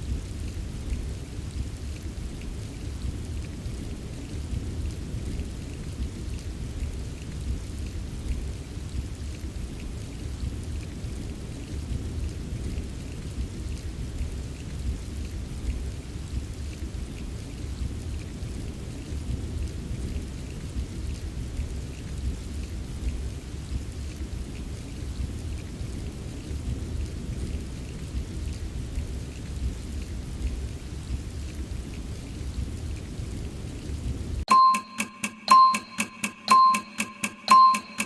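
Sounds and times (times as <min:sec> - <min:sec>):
low rumble of thunder: 0:00.0 - 0:34.4
steady rainfall: 0:00.0 - 0:35.2.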